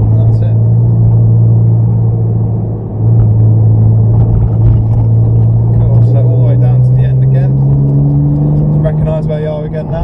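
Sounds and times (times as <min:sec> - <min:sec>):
car engine pulling: 0:00.0 - 0:10.0.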